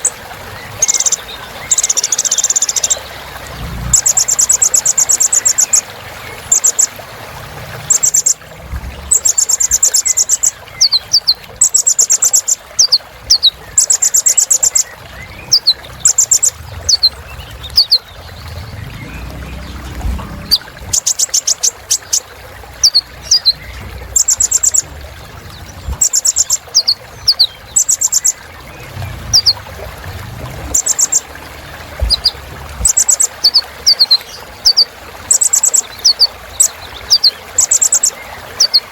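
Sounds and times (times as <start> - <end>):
bird high buzzy trills: 0.8 - 38.8.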